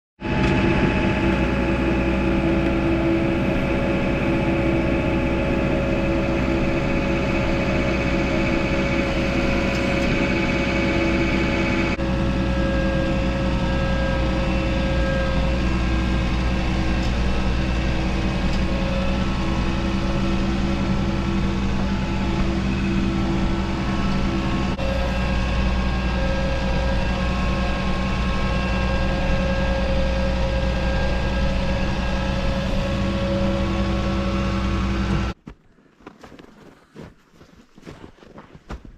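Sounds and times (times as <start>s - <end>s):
engine running steadily: 0.2s - 35.4s.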